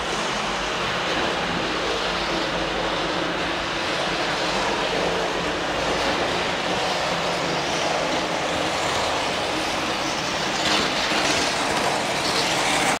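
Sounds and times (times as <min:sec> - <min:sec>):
model train rolling clatter: 0:00.0 - 0:13.0.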